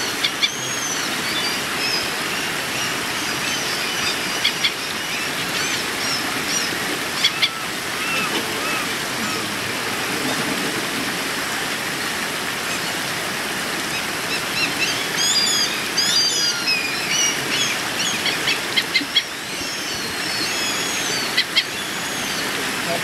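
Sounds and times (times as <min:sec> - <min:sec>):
creek water flowing: 0:00.0 - 0:23.0.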